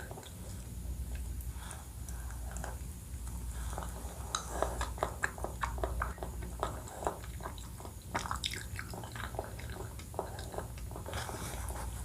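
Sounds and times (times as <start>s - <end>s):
person chewing: 0.0s - 11.8s
low steady hum: 0.0s - 12.0s.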